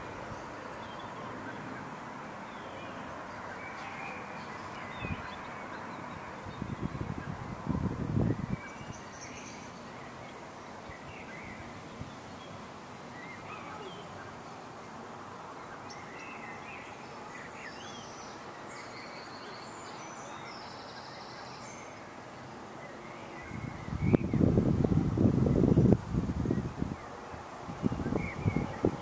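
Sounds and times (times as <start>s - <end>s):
outdoor background hiss: 0.0s - 29.0s
small birds chirping: 0.0s - 29.0s.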